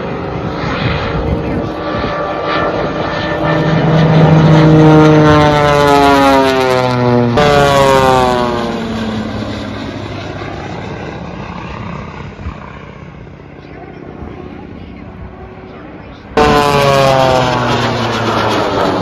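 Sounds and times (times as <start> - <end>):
propeller plane flying by: 0.0 - 19.0.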